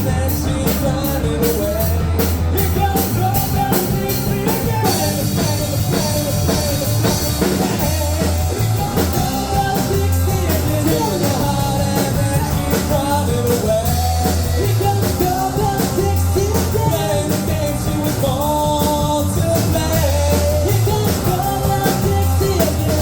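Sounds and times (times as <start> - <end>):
bass low notes: 0.0 - 23.0
drum kit beat: 0.0 - 23.0.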